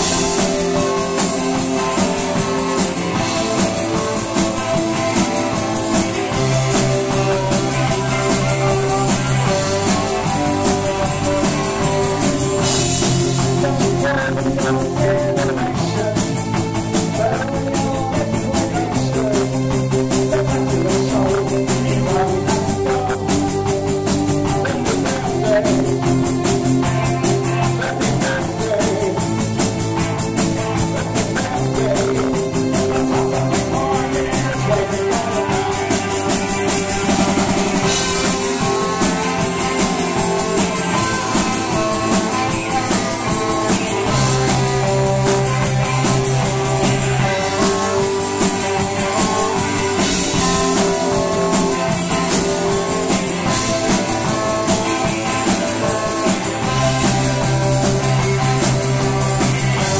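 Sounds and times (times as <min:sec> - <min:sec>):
bass guitar: 0:00.0 - 0:59.9
drum kit: 0:00.0 - 0:59.9
electric guitar: 0:00.0 - 0:59.9
man singing: 0:05.4 - 0:59.9.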